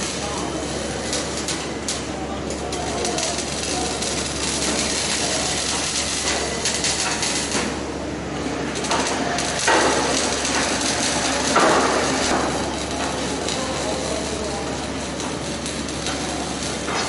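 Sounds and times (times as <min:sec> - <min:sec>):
arc welding torch: 0:00.0 - 0:17.0.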